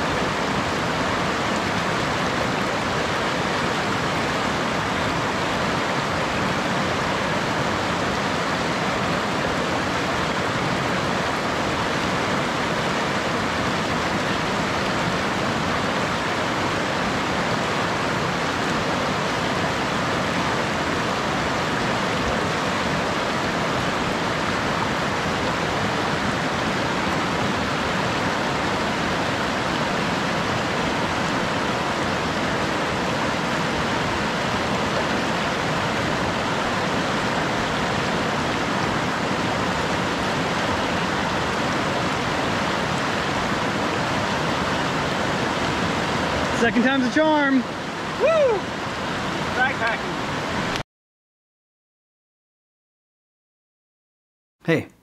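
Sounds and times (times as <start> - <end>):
creek rapids rushing: 0.0 - 50.8.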